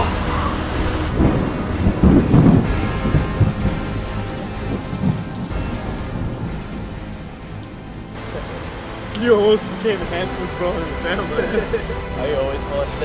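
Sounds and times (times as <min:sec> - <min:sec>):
rolling thunder: 0:00.0 - 0:12.7
heavy rain: 0:00.0 - 0:13.0.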